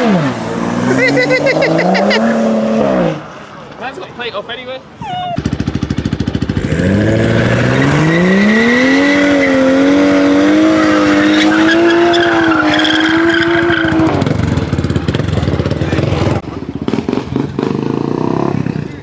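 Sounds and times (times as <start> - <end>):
car engine revving hard: 0.0 - 3.4, 5.4 - 18.9.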